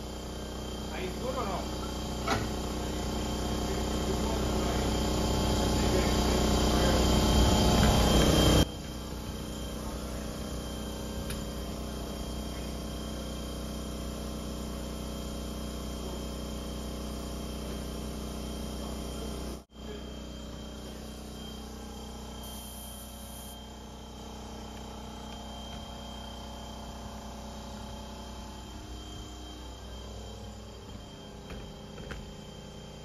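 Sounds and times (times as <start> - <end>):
tire changing machine noise: 0.0 - 33.0.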